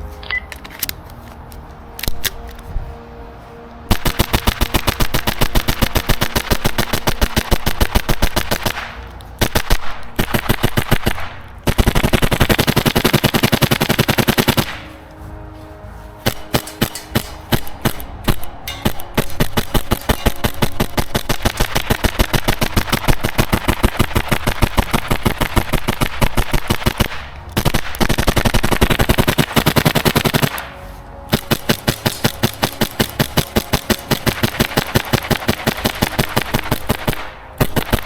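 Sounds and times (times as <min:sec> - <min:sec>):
airsoft pistol firing: 0:03.9 - 0:14.9, 0:16.3 - 0:30.7, 0:31.3 - 0:38.0.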